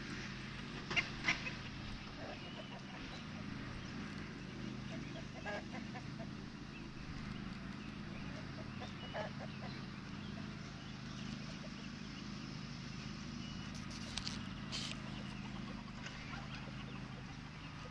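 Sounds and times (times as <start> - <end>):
chickens clucking: 0.0 - 17.9
steady low hum: 0.0 - 17.9.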